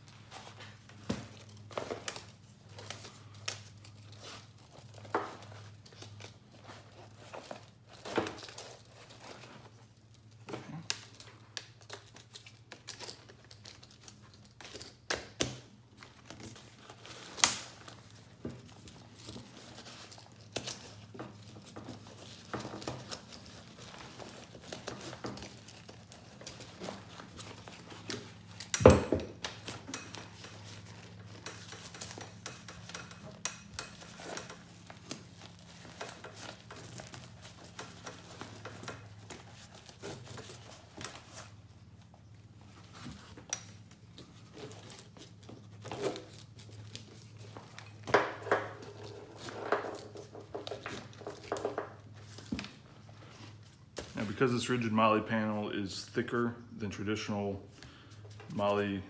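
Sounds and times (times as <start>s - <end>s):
straps rustling and scraping: 0.0s - 59.0s.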